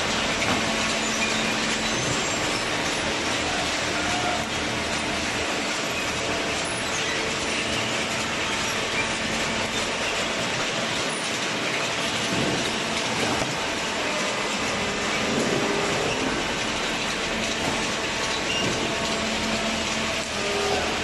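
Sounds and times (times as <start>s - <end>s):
machinery running with faint hum: 0.0s - 21.0s.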